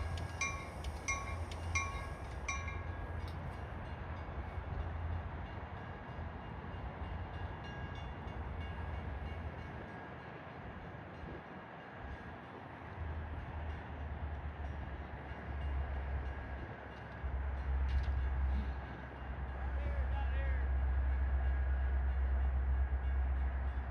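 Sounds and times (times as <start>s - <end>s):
train rumbling: 0.0s - 23.9s.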